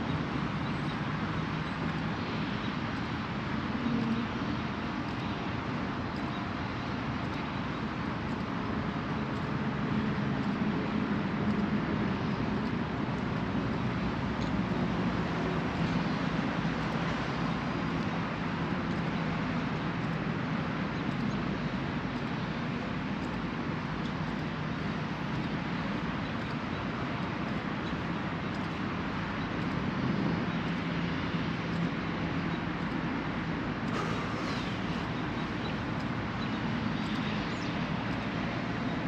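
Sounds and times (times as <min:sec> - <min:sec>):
distant traffic hum: 0:00.0 - 0:39.0.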